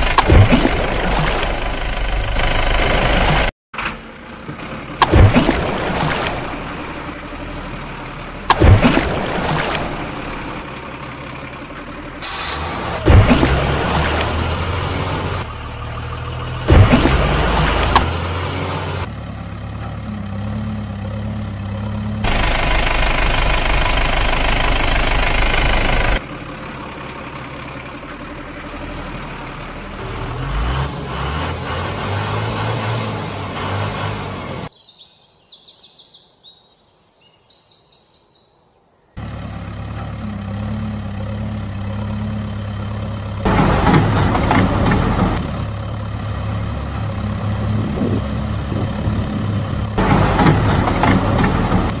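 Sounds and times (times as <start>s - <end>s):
vehicle engine idling and revving: 0.0s - 34.7s, 39.2s - 52.0s.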